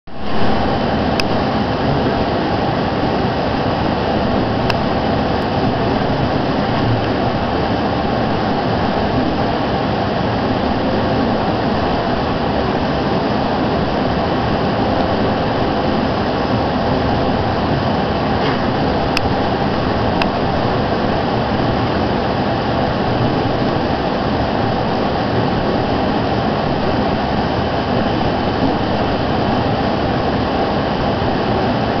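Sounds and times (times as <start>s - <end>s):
cooling fans whooshing: 0.1s - 32.0s.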